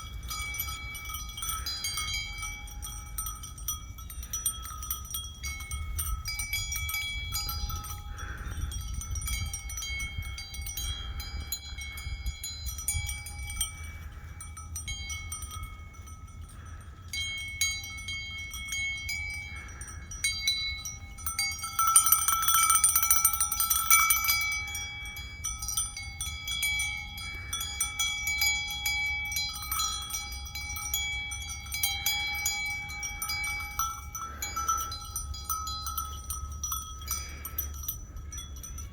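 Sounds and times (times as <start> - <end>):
metal bells ringing and jingling: 0.0 - 38.9.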